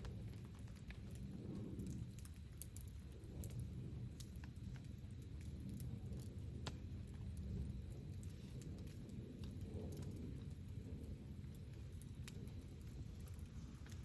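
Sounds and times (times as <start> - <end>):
campfire wood crackling: 0.0 - 14.0.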